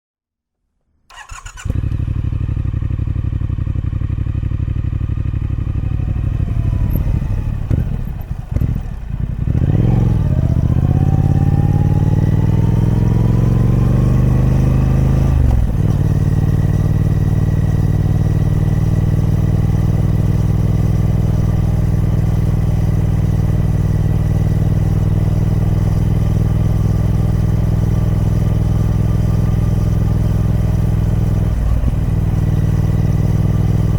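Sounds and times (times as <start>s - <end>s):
motorcycle engine idling and revving: 1.1s - 33.9s.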